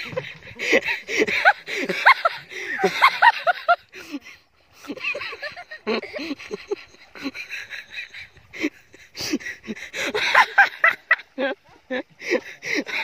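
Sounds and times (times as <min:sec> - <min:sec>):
people laughing: 0:00.0 - 0:13.0
water splashing and sloshing: 0:00.0 - 0:13.0.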